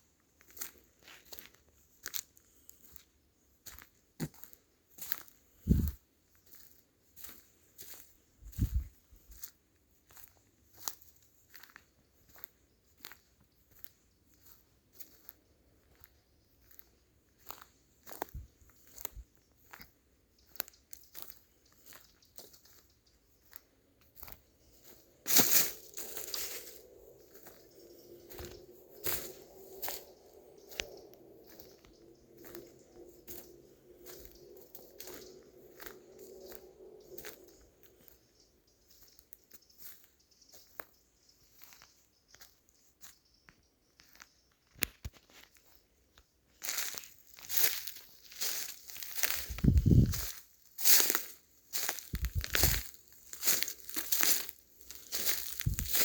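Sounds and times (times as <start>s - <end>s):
footsteps crunching on dry leaves: 0.4s - 3.0s, 3.6s - 22.8s, 23.4s - 38.2s, 46.6s - 56.0s.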